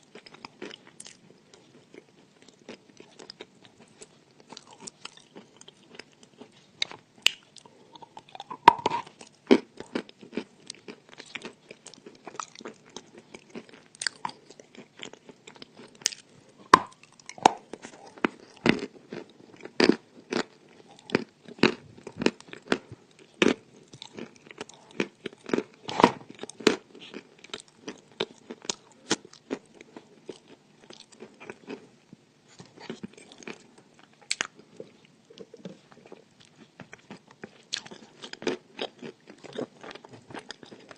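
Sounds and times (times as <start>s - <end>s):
person chewing crunchy chalk: 0.0s - 31.9s, 32.5s - 40.9s.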